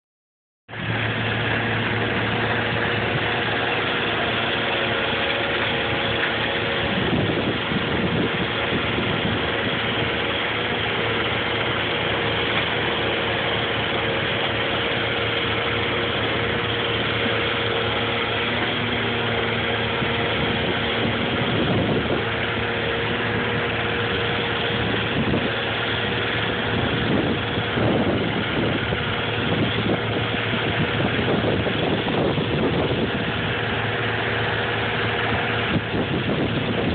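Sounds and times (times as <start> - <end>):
engine-driven blower drone: 0.7 - 36.9
excavator engine running: 0.7 - 36.9.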